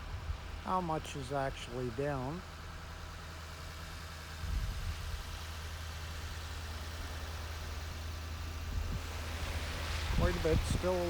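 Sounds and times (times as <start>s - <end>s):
outdoor noise: 0.0s - 11.0s
vehicle engine idling: 0.0s - 11.0s.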